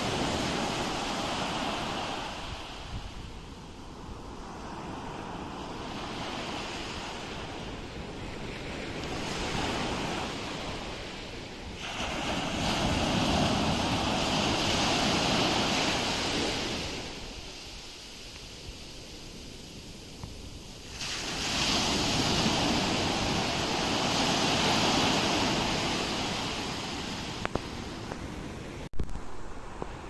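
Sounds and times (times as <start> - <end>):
ocean waves breaking: 0.0 - 28.8.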